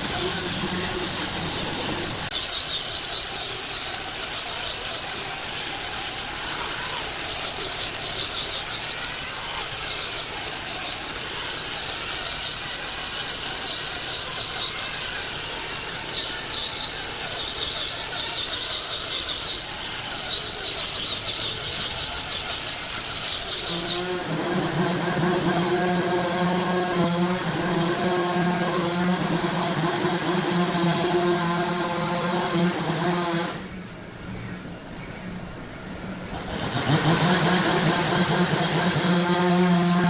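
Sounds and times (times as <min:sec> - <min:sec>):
machine with wavering squeal: 0:00.0 - 0:34.8
low machine hum: 0:00.0 - 0:40.0.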